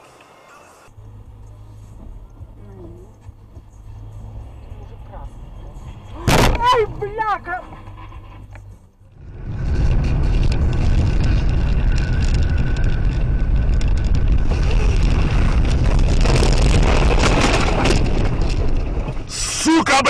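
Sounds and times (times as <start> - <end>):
moving car rumble: 0.7 - 20.0.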